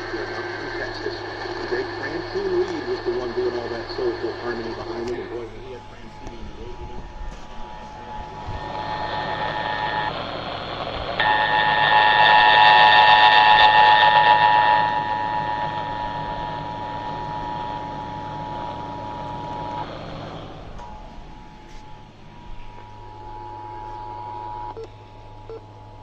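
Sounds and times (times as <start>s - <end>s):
radio hiss and static: 0.0s - 24.9s.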